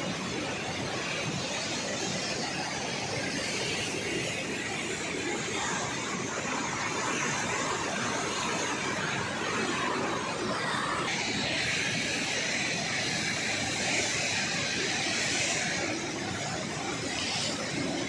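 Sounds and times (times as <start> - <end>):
river rushing through rapids: 0.0 - 18.0.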